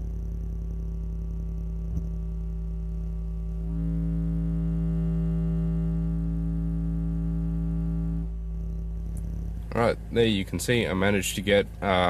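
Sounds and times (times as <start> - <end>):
buzzing hum of overtones: 0.0 - 12.0
subwoofer playing low sine tone: 0.0 - 12.0.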